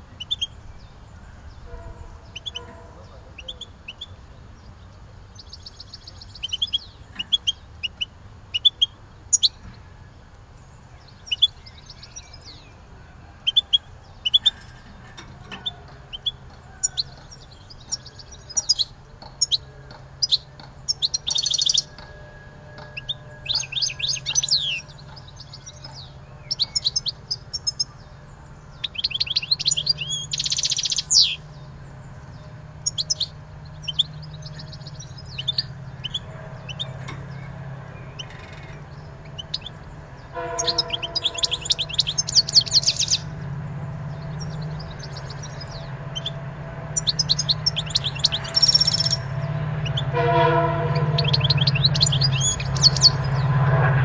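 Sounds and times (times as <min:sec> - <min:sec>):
songbird singing: 0:00.0 - 0:54.0
steady low hum: 0:00.0 - 0:54.0.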